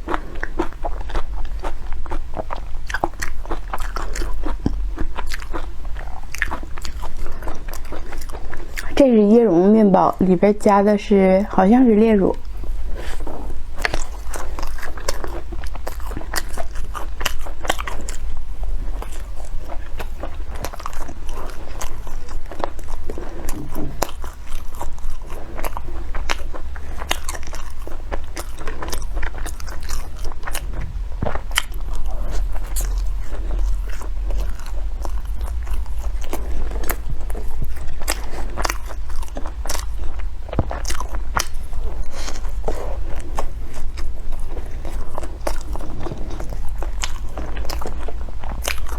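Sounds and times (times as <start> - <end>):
chewing crunchy bread: 0.0 - 48.9
steady low hum: 0.0 - 48.9.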